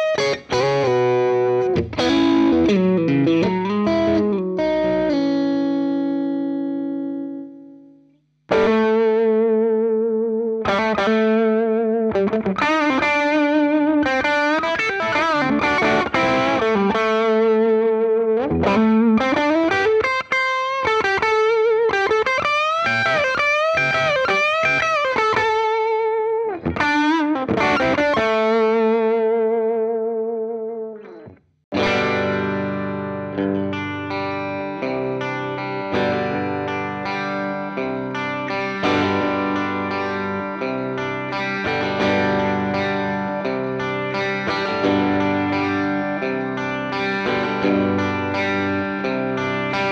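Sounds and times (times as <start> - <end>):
distorted electric guitar lead: 0.0 - 49.9
overdriven guitar chords: 0.0 - 49.9.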